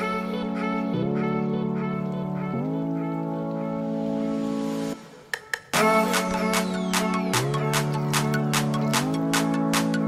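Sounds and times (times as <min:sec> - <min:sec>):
electronic music with synth chords: 0:00.0 - 0:10.0.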